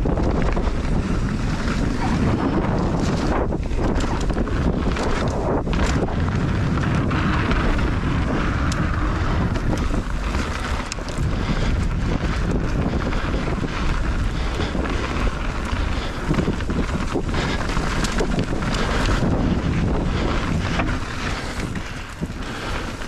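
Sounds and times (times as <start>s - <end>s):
bike rattling: 0.0s - 23.0s
tyres rumbling on dirt: 0.0s - 23.0s
wind buffeting microphone: 0.0s - 23.0s.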